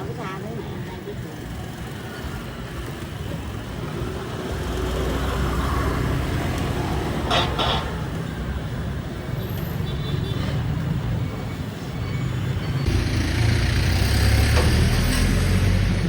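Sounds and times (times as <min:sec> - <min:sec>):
traffic engine rumble: 0:00.0 - 0:16.0.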